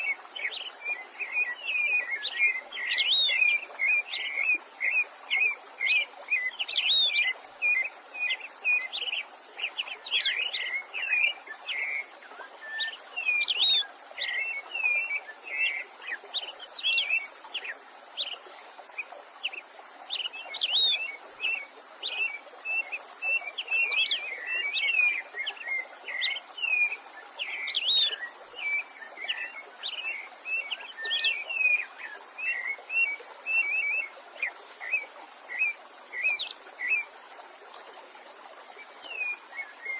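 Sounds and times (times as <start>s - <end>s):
songbirds chirping and whistling: 0.0s - 18.4s, 19.0s - 37.1s
stream rushing: 0.0s - 39.9s.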